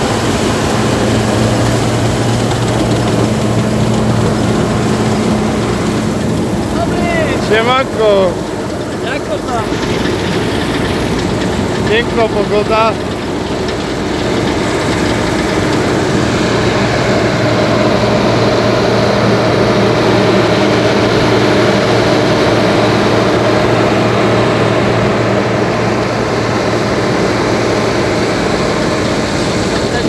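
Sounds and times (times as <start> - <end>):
combine harvester diesel engine running: 0.0 - 30.0.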